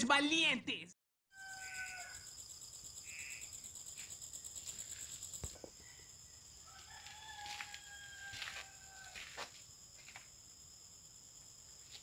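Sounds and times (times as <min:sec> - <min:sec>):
insects chirping: 0:01.3 - 0:12.0.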